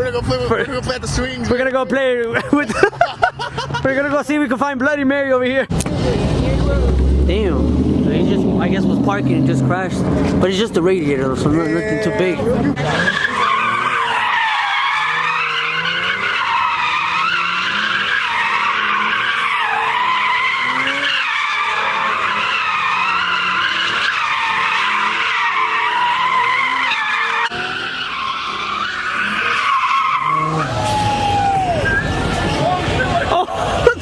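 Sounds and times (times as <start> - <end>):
car engine revving: 5.7 - 34.0
car tyres squealing: 5.7 - 34.0.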